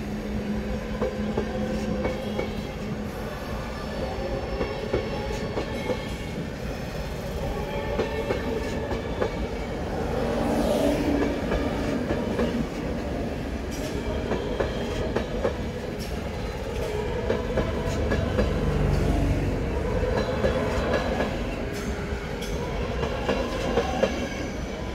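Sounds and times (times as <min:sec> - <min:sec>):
train coaches rumbling past: 0:00.0 - 0:24.9.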